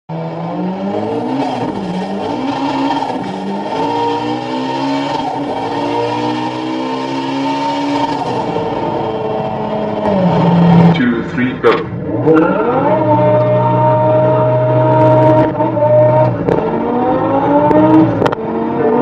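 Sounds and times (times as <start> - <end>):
car engine revving high: 0.1 - 19.0.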